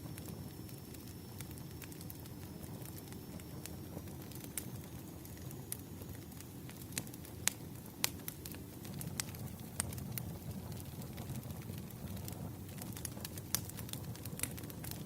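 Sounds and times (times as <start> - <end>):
low rumble of flames: 0.0 - 15.0
firewood popping and snapping: 1.4 - 15.0.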